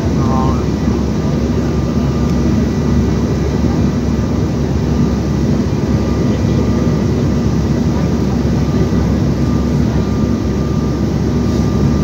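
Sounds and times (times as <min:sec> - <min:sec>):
jet cabin roar: 0:00.0 - 0:12.0.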